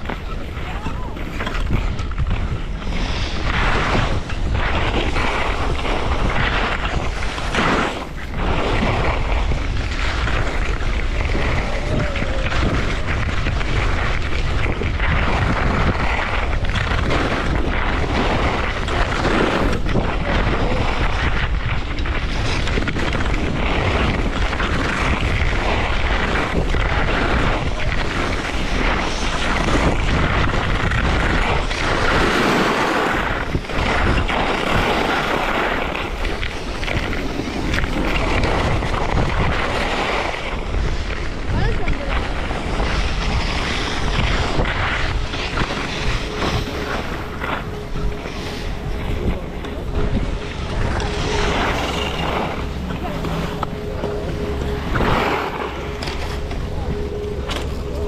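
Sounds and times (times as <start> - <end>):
skis scraping on snow: 0.0 - 58.0
wind rumbling on microphone: 0.0 - 58.0.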